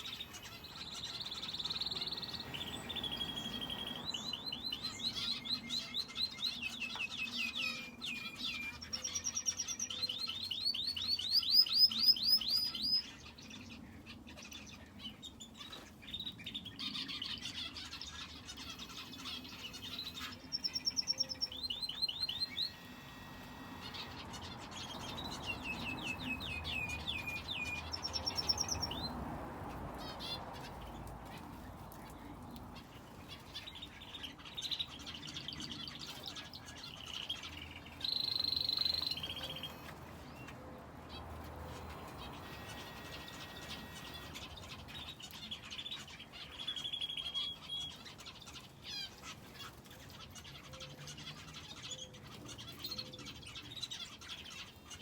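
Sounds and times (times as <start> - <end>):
finches and canary chirping trills: 0.0 - 55.0.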